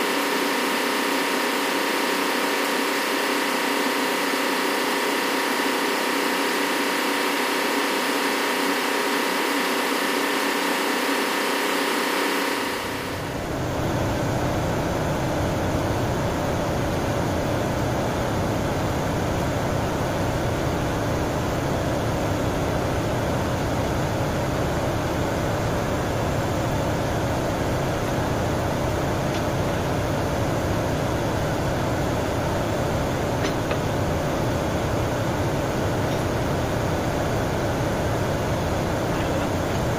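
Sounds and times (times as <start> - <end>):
engine room machinery drone: 0.0 - 39.9.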